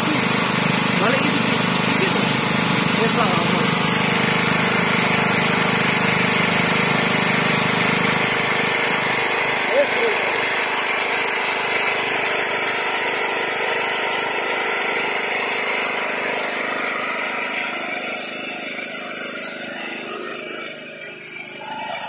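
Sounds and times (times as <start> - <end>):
portable generator engine running: 0.0 - 22.0.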